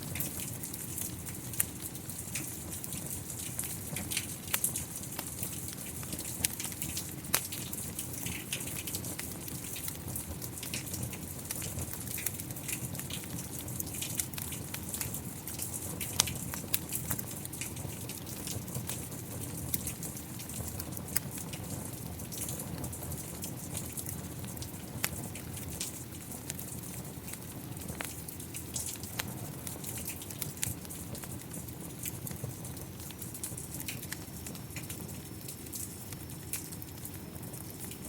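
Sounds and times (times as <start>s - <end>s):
steady rain: 0.0s - 38.0s
wood fire crackling and popping: 0.0s - 38.0s.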